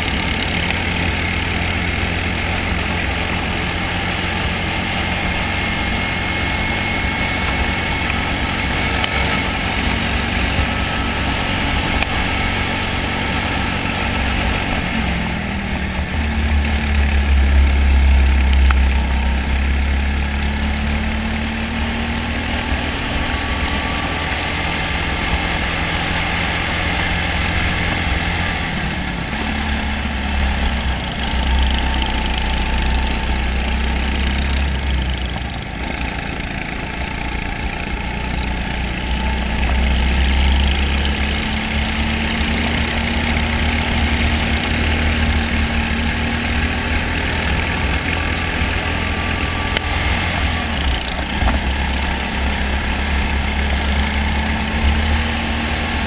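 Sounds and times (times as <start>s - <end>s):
kart engine running: 0.0s - 56.0s.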